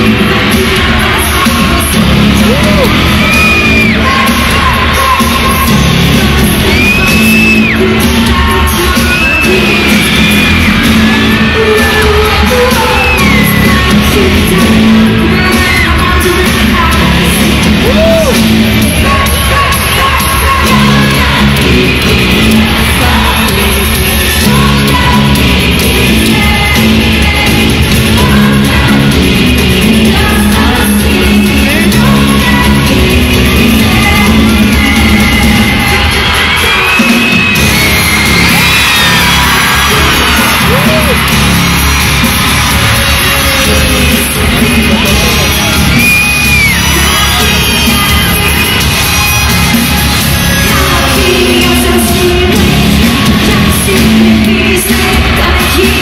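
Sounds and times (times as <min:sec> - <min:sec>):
crowd shouting: 0:00.0 - 0:56.0
live rock band: 0:00.0 - 0:56.0
person singing: 0:00.0 - 0:56.0.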